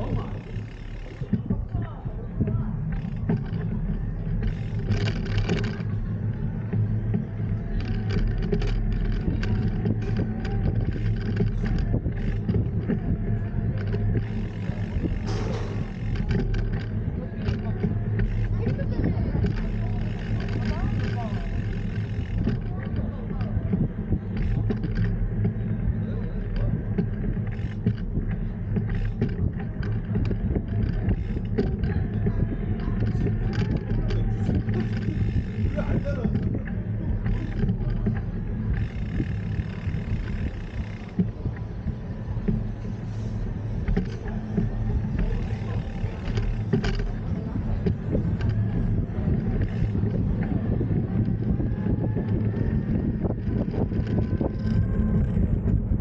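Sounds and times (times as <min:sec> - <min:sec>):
bicycle rumbling over brick paving: 0:00.0 - 0:56.0
small clicks and rattles: 0:00.0 - 0:56.0.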